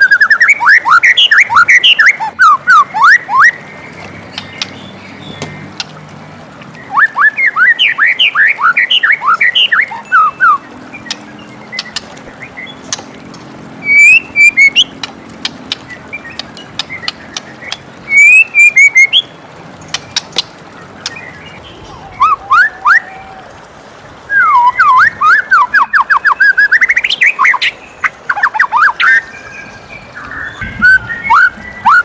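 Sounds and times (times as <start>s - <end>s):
bird whistling song: 0.0s - 5.6s, 6.8s - 12.9s, 13.8s - 15.1s, 15.8s - 20.4s, 21.0s - 23.2s, 24.3s - 32.0s.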